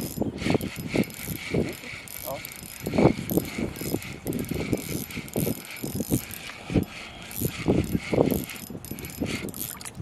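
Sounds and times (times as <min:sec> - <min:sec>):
fishing reel whirring: 0:00.0 - 0:10.0.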